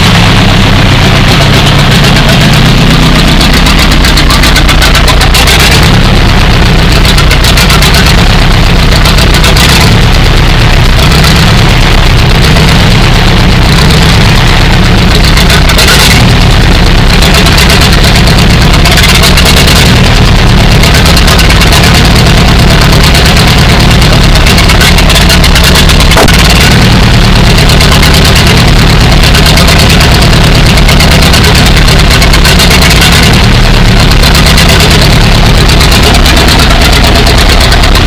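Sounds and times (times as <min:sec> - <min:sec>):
tractor engine running loudly: 0:00.0 - 0:38.0.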